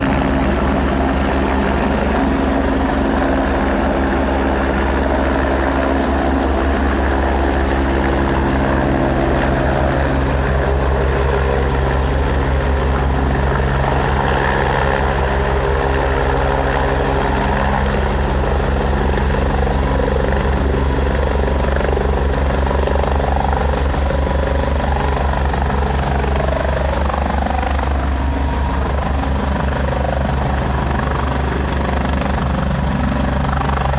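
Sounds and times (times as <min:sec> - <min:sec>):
helicopter engine drone: 0:00.0 - 0:33.9
helicopter rotor chop: 0:00.0 - 0:33.9.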